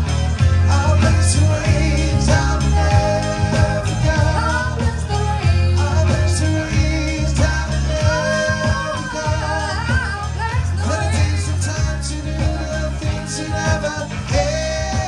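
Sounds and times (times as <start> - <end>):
bass line: 0.0 - 15.0
person singing: 0.0 - 15.0.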